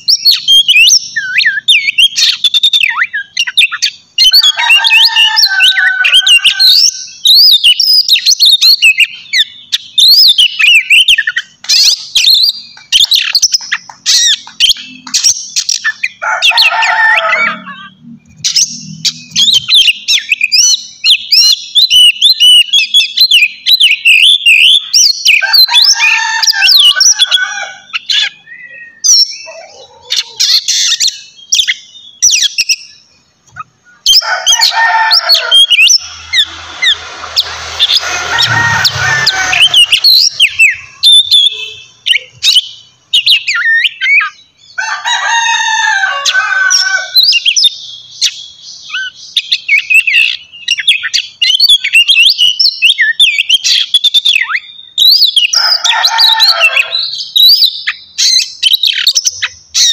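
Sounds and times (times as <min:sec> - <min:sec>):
bird singing whistles and chatter: 0:00.0 - 0:16.2, 0:17.4 - 0:33.0, 0:33.6 - 0:44.4, 0:46.7 - 0:59.9.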